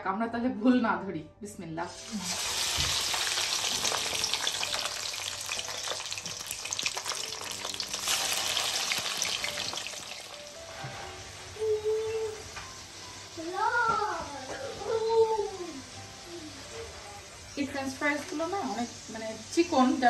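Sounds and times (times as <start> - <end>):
fries sizzling in hot oil: 1.9 - 20.0.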